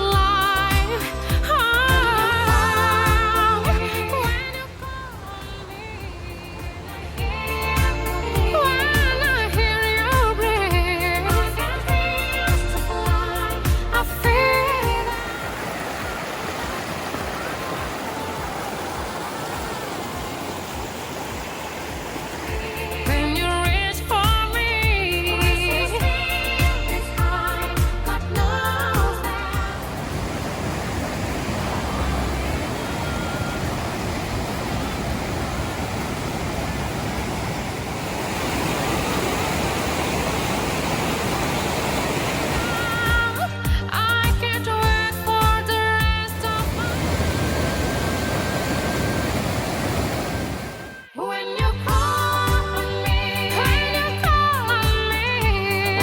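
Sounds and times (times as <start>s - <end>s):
rushing stream water: 0.0s - 45.6s, 46.3s - 51.1s.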